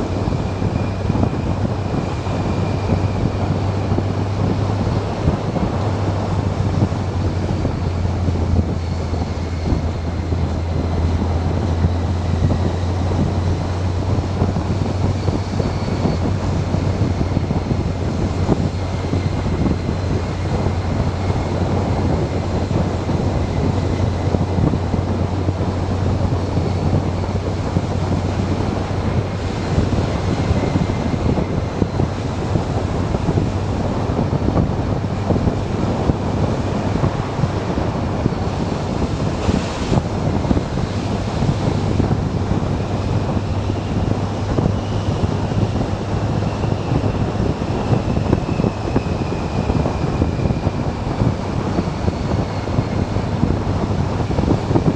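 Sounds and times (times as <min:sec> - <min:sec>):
motorcycle engine drone: 0:00.0 - 0:54.9
wind rushing over microphone: 0:00.0 - 0:54.9.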